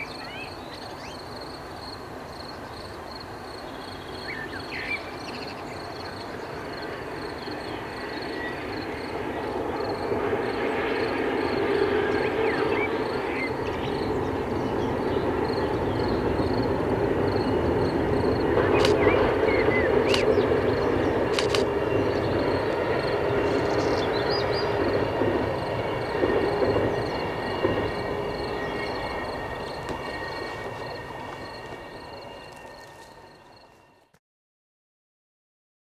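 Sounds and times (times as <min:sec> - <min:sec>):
distant train rumbling across viaduct: 0:00.0 - 0:34.1.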